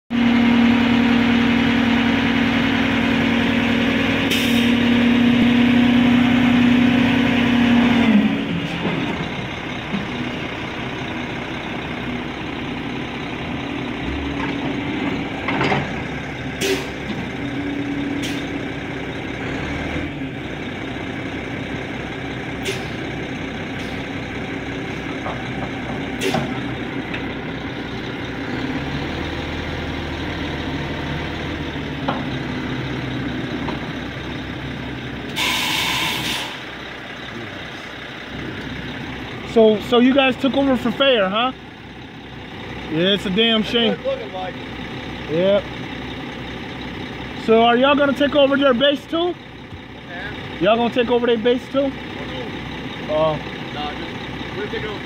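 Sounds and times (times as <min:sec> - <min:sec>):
truck diesel engine revving: 0:00.1 - 0:55.0.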